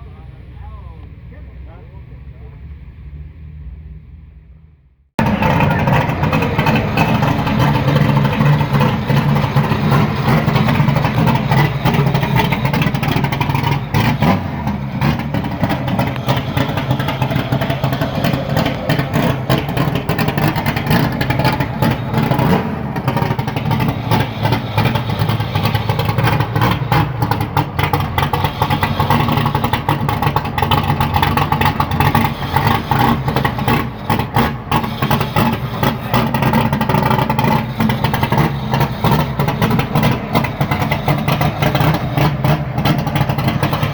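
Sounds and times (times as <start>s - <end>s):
car engine at high revs: 0.0s - 43.9s.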